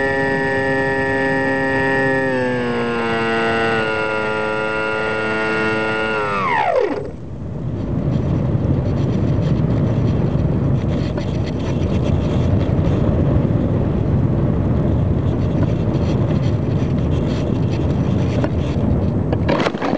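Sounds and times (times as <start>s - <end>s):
wind rush on microphone: 0.0s - 19.9s.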